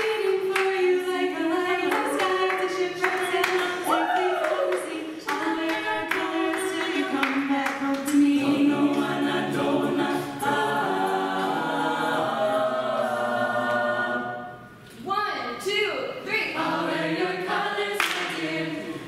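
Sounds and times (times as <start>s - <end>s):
a cappella group singing: 0.0s - 14.8s, 16.4s - 19.0s.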